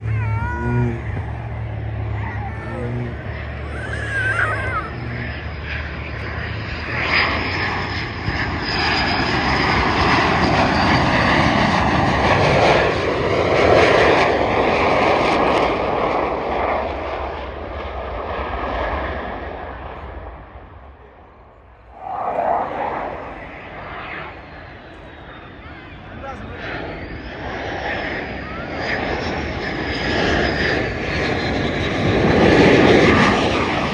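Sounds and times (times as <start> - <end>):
airplane engine flying past: 0.0 - 33.9.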